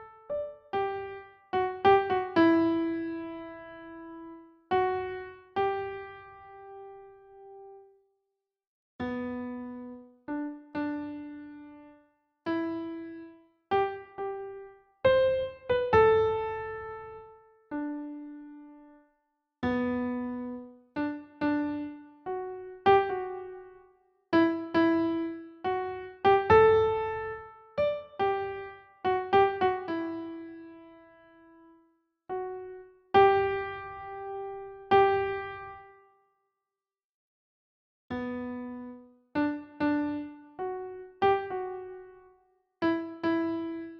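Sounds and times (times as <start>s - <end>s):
slow soft piano melody: 0.0s - 8.0s, 9.0s - 36.2s, 38.1s - 43.9s.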